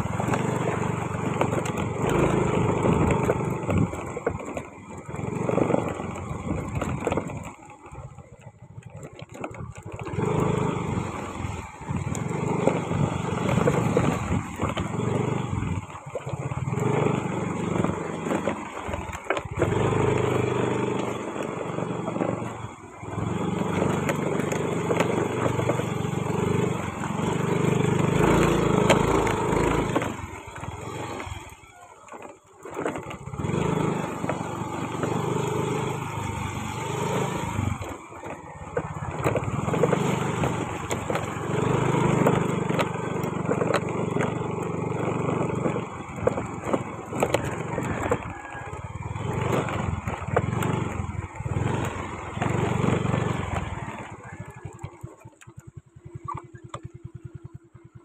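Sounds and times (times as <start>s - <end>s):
knocks and rattles from bumps: 0.0s - 57.1s
scooter engine running: 0.0s - 58.0s.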